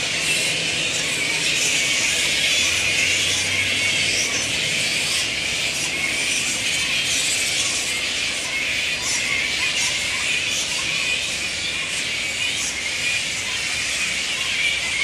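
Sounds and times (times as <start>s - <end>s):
flying foxes chattering: 0.0s - 15.0s.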